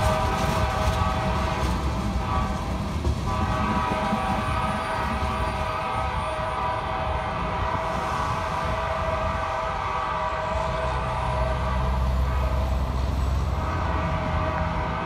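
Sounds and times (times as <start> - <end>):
train horn chord: 0.0 - 15.0
train rolling rumble: 0.0 - 15.0.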